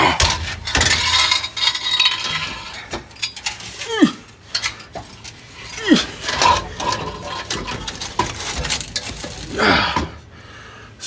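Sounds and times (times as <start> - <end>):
metal ringing: 0.0 - 10.2
metal clinking and knocking: 0.0 - 10.3.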